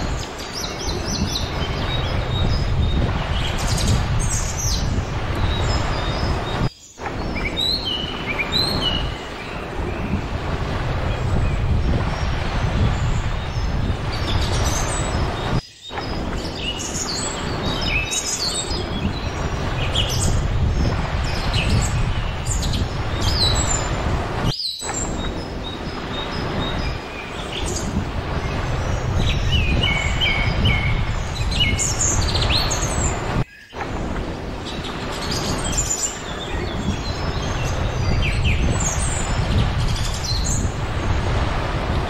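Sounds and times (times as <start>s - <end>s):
small birds chirping: 0.0s - 41.8s
gentle surf: 0.0s - 42.0s
wind: 0.0s - 42.0s.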